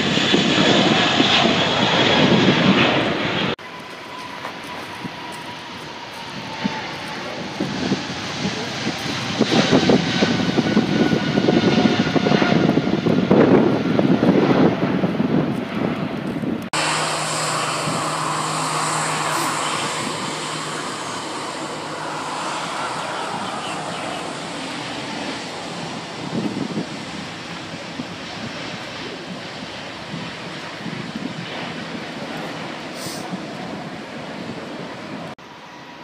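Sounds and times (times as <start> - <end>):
jet engines rumbling: 0.0 - 36.0
low hum: 5.4 - 35.8.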